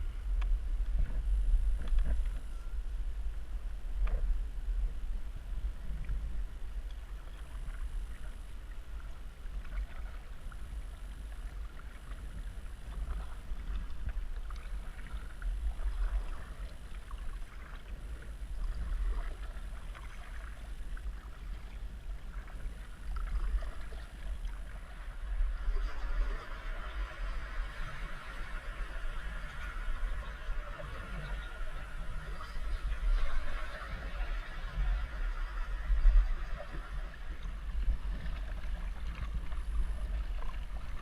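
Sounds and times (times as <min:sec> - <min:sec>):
wind rumbling on microphone: 0:00.0 - 0:41.0
paddle splashing water: 0:07.0 - 0:41.0.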